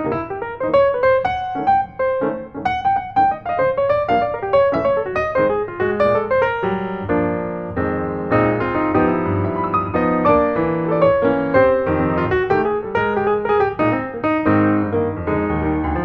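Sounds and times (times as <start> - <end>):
piano melody over chords: 0.0 - 16.0.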